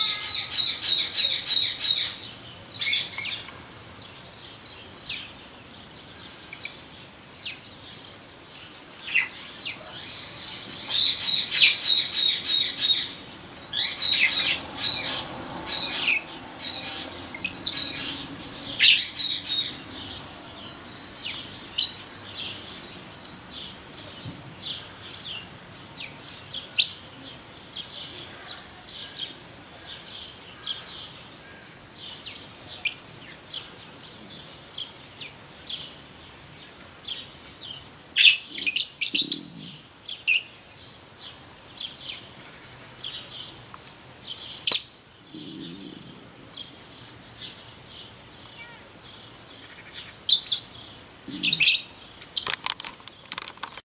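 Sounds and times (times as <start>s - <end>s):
lovebirds chirping: 0.0s - 53.8s.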